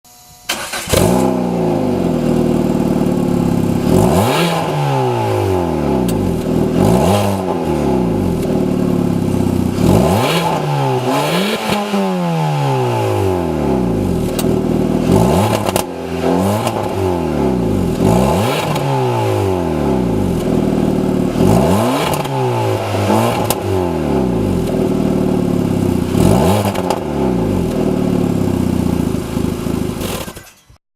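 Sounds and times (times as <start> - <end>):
car engine revving: 0.5 - 30.5.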